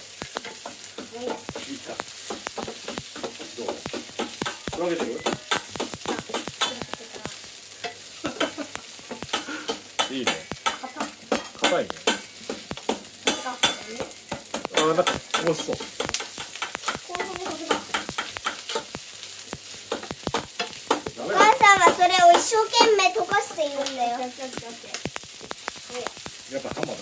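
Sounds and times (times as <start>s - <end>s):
food frying hiss: 0.0s - 27.0s.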